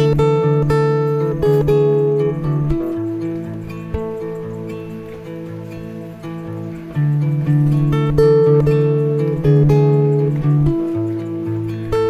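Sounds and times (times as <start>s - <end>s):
acoustic guitar strummed and picked: 0.0s - 12.0s.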